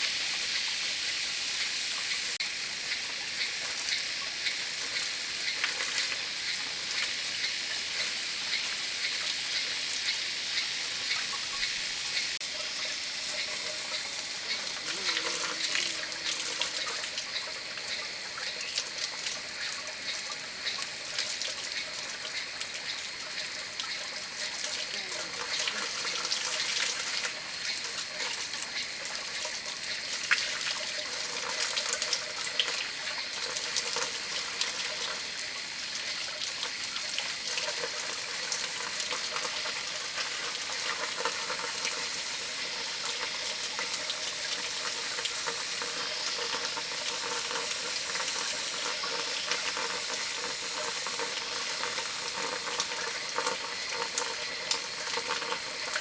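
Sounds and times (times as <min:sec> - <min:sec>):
water running: 0:00.0 - 0:56.0.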